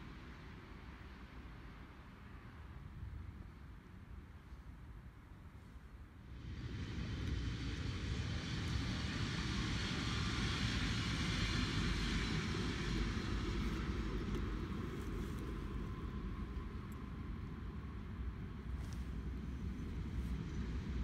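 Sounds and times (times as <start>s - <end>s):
train passing at speed: 0.0s - 4.5s, 6.1s - 21.0s.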